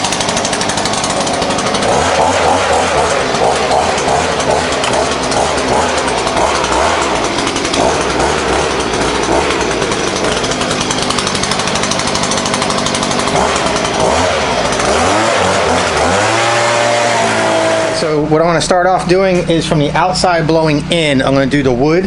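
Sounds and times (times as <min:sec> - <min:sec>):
pressure washer running: 0:00.0 - 0:22.0.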